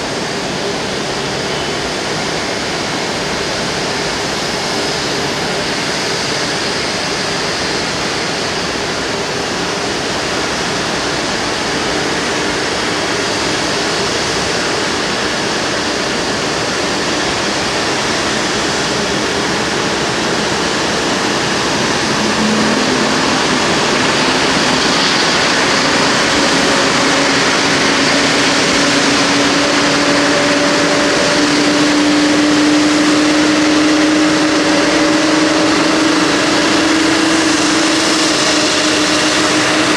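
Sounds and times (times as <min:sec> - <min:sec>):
jet engine roar: 0:00.0 - 0:39.9
jet engine whine rising: 0:00.0 - 0:39.9.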